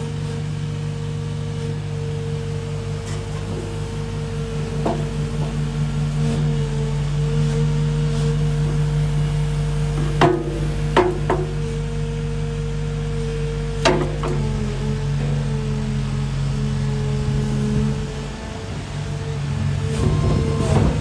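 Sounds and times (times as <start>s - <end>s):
excavator diesel engine idling: 0.0s - 21.0s.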